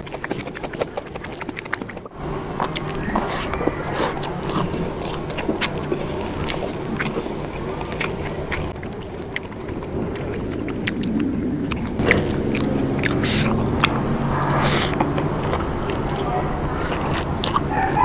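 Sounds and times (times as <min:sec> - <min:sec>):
low background rumble: 0:00.0 - 0:18.0
person chewing with wet mouth clicks: 0:00.0 - 0:18.0.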